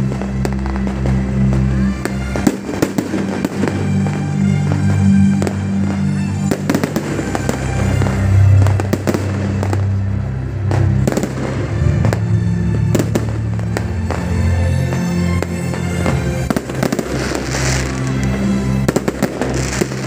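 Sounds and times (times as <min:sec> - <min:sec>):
fireworks bangs: 0:00.0 - 0:20.0
fireworks crackling: 0:00.0 - 0:20.0
music with low held notes: 0:00.0 - 0:20.0.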